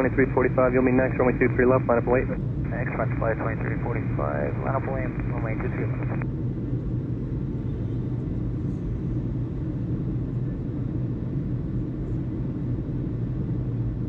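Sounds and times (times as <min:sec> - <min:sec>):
low hum: 0:00.0 - 0:14.0
low rumble: 0:00.0 - 0:14.0.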